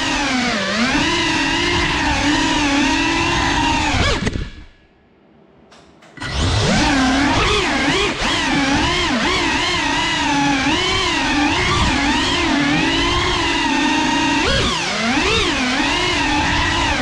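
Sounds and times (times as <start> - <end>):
drone motors whining: 0.0 - 4.8, 6.1 - 17.0.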